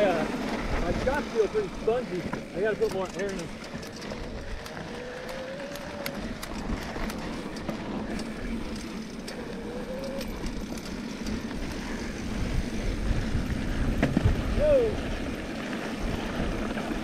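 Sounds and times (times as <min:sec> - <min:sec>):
gravel clicks and ticks: 0:00.0 - 0:17.0
tyre rumble on dirt trail: 0:00.0 - 0:17.0.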